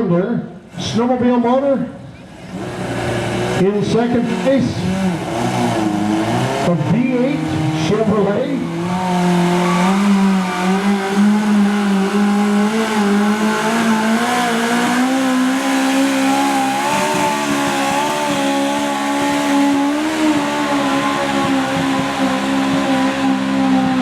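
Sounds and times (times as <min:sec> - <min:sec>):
lawn tractor engine at high revs: 0:02.4 - 0:24.0.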